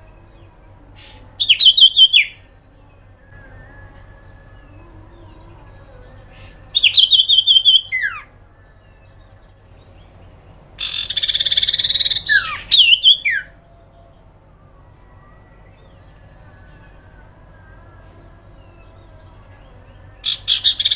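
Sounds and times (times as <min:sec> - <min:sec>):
bird singing: 0:00.0 - 0:20.9.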